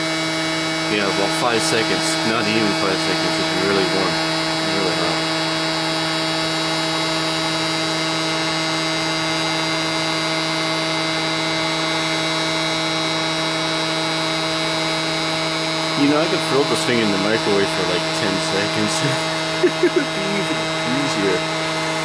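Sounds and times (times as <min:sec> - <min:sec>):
blower fan motor hum: 0:00.0 - 0:22.0.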